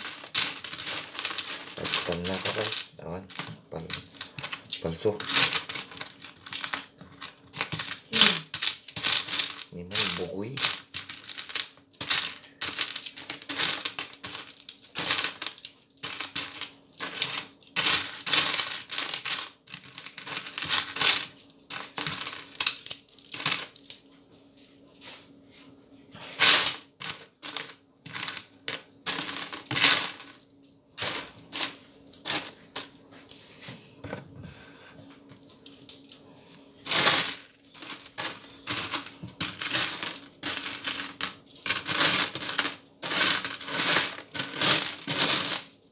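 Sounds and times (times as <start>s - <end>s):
coins clinking in plastic bowl: 0.0s - 24.1s, 26.4s - 33.4s, 35.1s - 45.9s.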